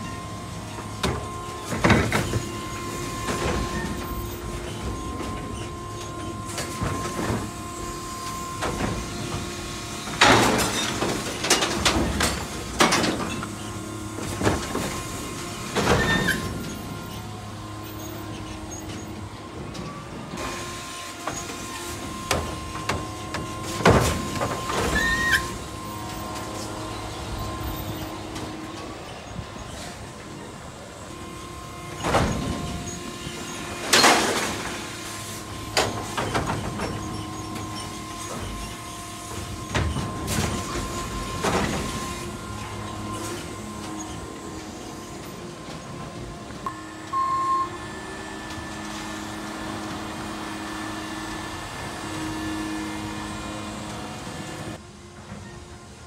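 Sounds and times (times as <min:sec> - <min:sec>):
carts banging and clanging: 0:00.0 - 0:55.4.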